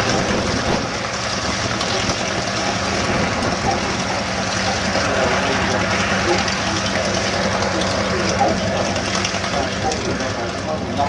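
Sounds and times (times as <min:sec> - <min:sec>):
propeller plane engines running: 0:00.0 - 0:11.0.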